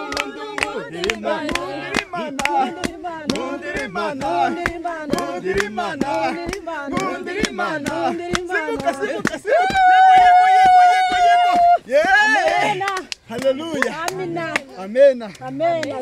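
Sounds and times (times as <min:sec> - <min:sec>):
group singing a praise song: 0:00.0 - 0:16.0
hand clapping: 0:00.0 - 0:16.0.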